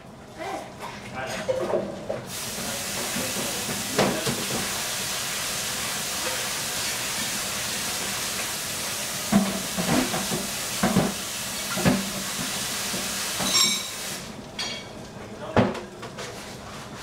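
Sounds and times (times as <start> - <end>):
pot simmering hiss: 2.2 - 17.0.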